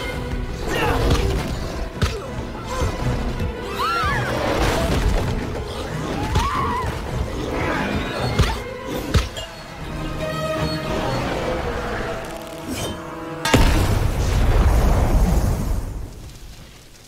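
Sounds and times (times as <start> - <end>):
dramatic film music: 0.0 - 16.1.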